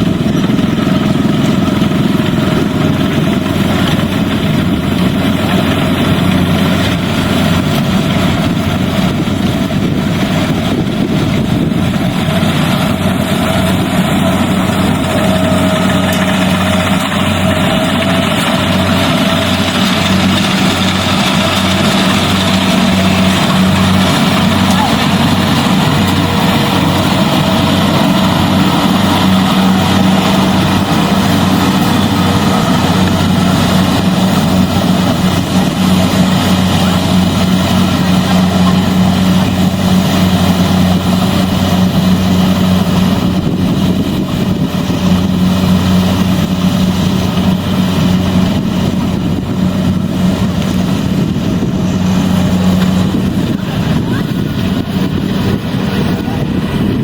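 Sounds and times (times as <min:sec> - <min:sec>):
combine harvester engine humming: 0:00.0 - 0:57.0.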